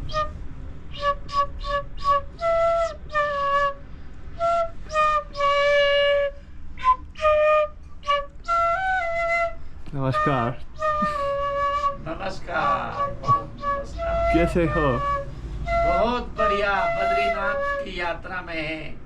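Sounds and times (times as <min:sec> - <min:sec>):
small flute playing a tune: 0:00.0 - 0:18.4.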